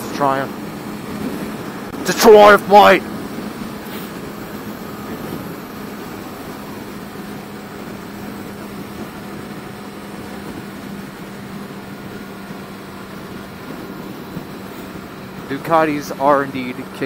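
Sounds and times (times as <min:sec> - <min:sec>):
motorcycle engine cruising: 0:00.0 - 0:17.0
wind and road noise: 0:00.0 - 0:17.0.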